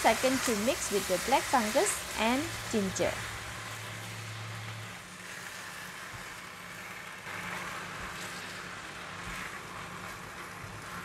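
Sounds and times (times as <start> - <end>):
stir-frying sizzle in a wok: 0.0 - 11.0.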